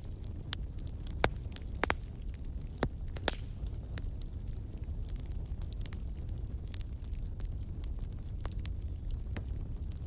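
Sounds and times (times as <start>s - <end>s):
fire crackling and popping: 0.0s - 10.0s
fire rumbling: 0.0s - 10.0s.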